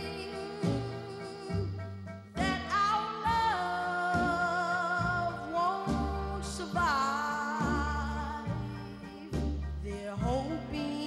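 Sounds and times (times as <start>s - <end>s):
backing band with bass: 0.0s - 11.0s
person singing ballad: 0.0s - 11.0s.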